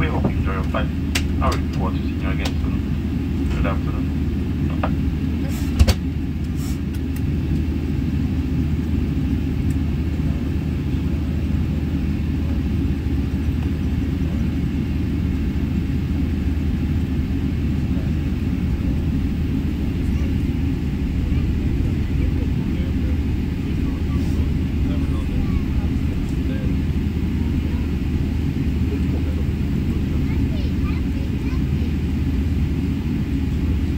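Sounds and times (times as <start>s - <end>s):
jet engines idling: 0.0s - 33.9s.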